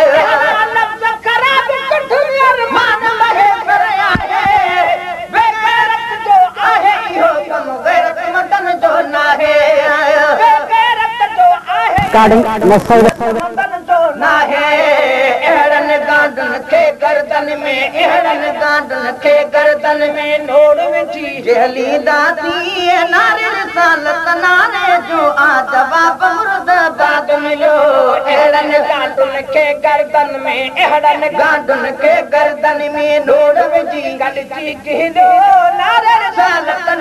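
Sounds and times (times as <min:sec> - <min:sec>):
person singing devotional song: 0:00.0 - 0:37.0.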